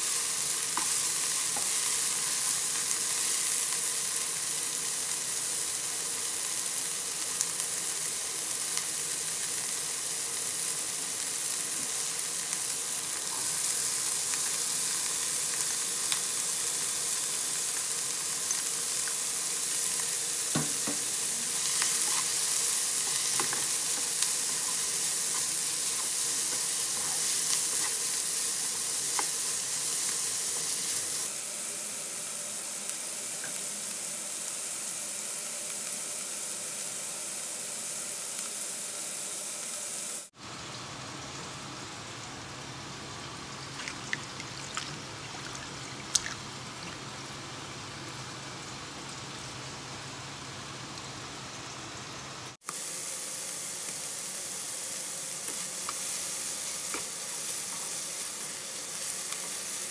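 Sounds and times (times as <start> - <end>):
food sizzling in frying pan: 0.0 - 59.9.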